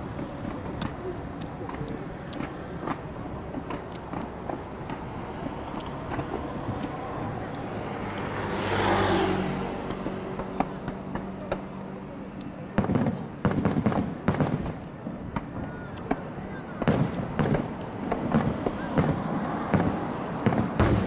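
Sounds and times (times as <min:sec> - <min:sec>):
fireworks cracking and popping: 0:00.0 - 0:21.0.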